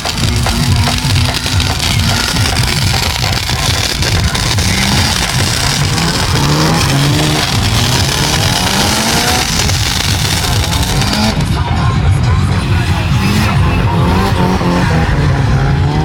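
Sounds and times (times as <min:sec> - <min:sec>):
car engine revving: 0:00.0 - 0:16.0
music playing: 0:00.0 - 0:16.0.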